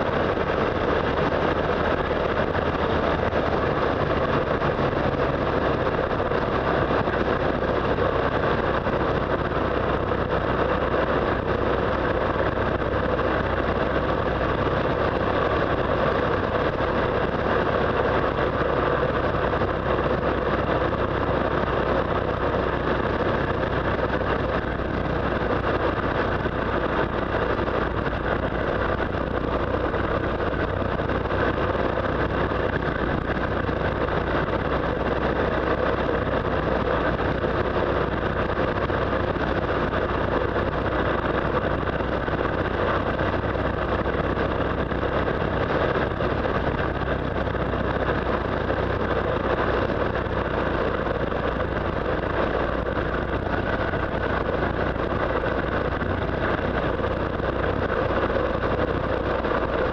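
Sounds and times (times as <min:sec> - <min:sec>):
motorcycle engine drone: 0:00.0 - 0:59.9
wind on microphone: 0:00.0 - 0:59.9.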